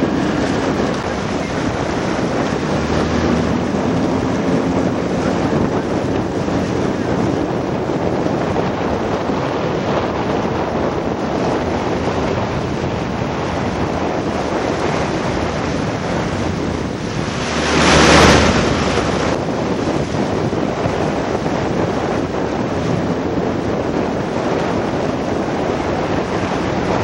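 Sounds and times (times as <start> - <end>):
moving water: 0.0 - 27.0
wind on microphone: 0.0 - 27.0.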